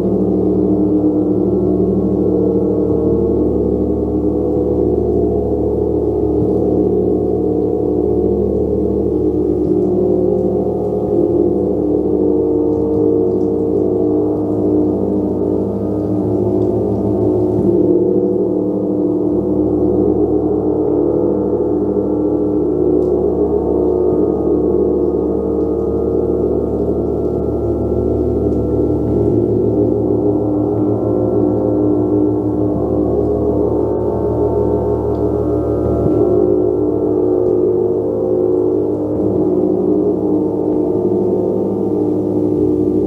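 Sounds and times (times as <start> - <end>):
gong ringing: 0.0 - 43.0.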